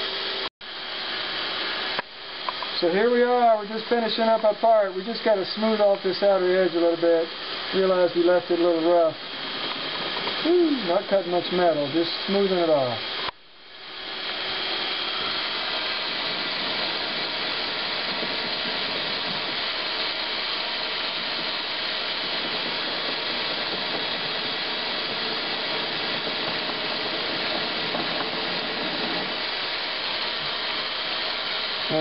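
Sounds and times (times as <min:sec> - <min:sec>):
faint motor whine: 0:00.0 - 0:32.0
metal lathe cutting hiss: 0:00.0 - 0:32.0.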